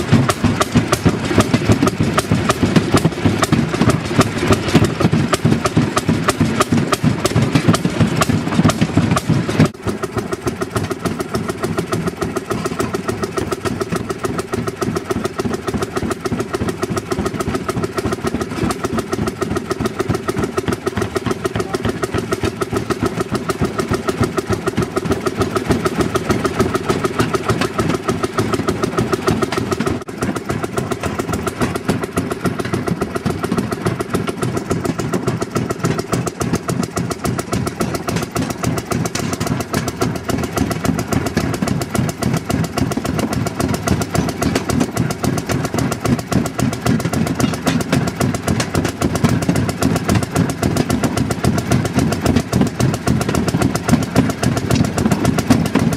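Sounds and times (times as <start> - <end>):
rail motor car engines running: 0.0 - 55.9.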